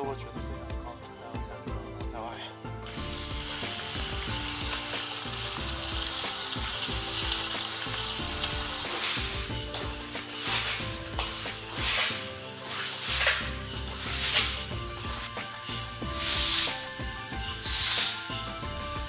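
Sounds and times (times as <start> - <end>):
twig broom sweeping concrete: 2.9 - 19.0.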